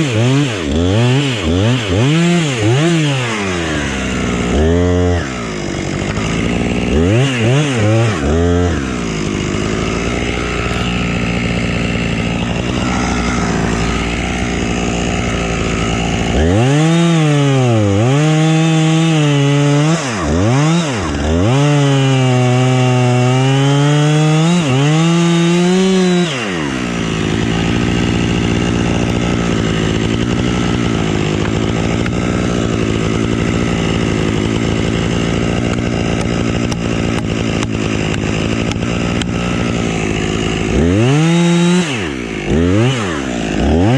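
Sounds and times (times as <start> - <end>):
chainsaw idling and revving: 0.0 - 43.9.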